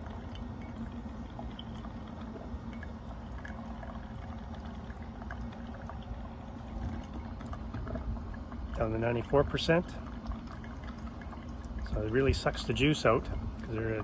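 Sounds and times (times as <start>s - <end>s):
coffee maker gurgling: 0.0s - 14.0s
cooling fan hum: 0.0s - 14.0s.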